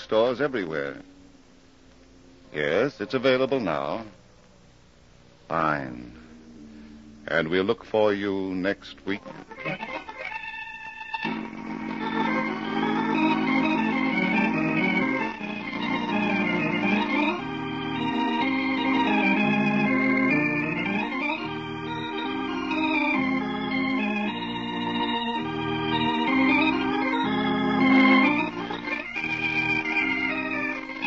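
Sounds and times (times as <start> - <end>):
organ chords: 0.0 - 31.0.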